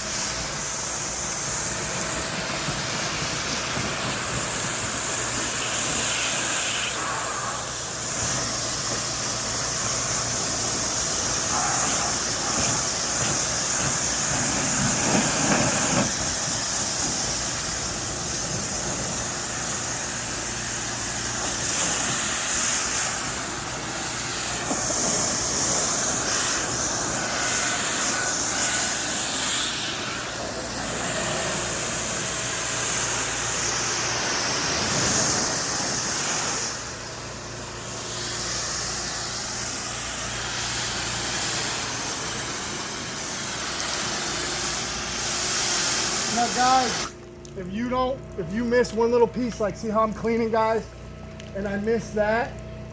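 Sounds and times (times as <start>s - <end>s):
engine and pump humming: 0.0s - 52.9s
pressure washer water spraying: 0.0s - 52.9s.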